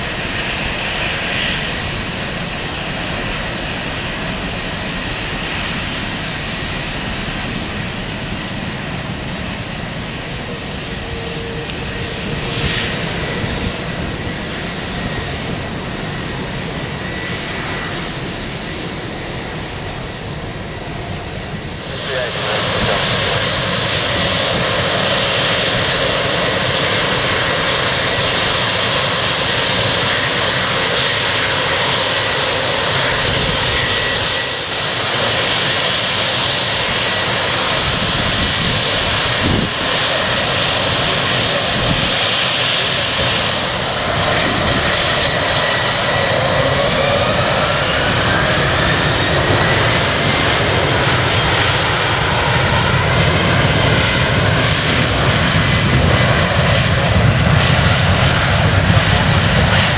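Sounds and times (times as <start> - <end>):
airliner engines whining: 0.0 - 59.9.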